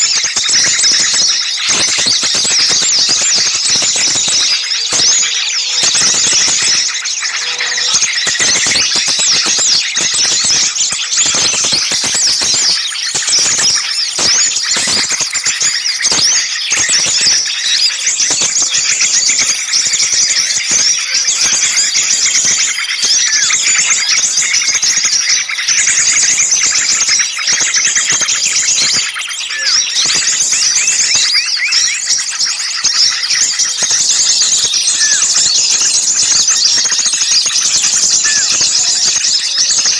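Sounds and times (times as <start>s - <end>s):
chorus of small songbirds chirping: 0.0s - 39.9s.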